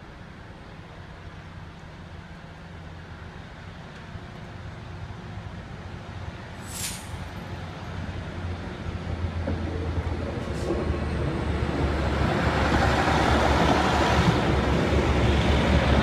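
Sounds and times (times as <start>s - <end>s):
train diesel engine humming: 0.0s - 16.0s.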